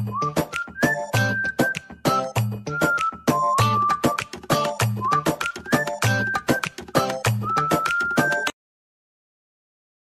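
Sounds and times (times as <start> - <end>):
whistle ringtone over beat: 0.0 - 8.6.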